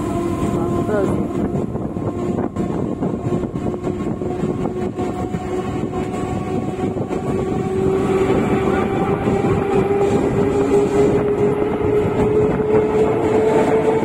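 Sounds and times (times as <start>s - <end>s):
freight train wheels rumbling: 0.0s - 14.0s
steady droning tone: 0.0s - 14.0s.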